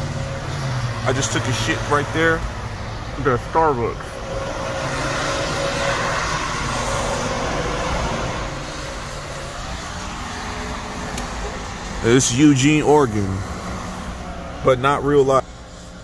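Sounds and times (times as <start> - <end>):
traffic hum: 0.0 - 16.0
tyres hissing on wet road: 0.0 - 16.0.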